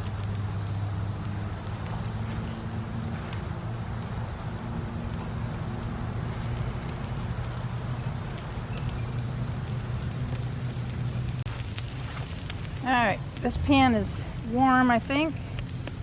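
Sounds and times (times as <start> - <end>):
campfire crackles: 0.0 - 16.0.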